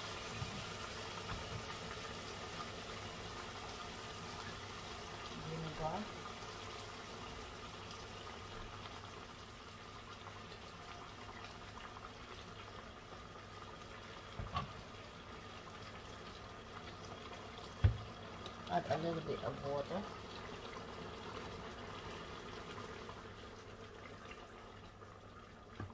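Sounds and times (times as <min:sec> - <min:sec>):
food simmering in a pot: 0:00.0 - 0:25.9.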